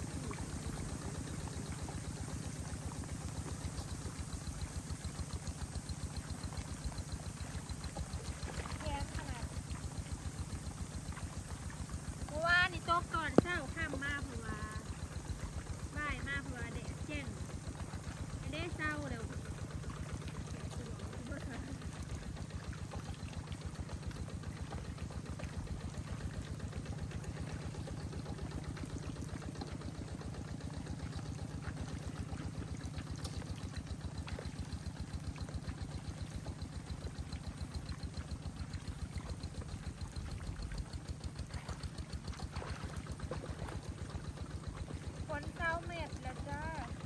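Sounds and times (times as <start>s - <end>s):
engine running: 0.0s - 47.0s.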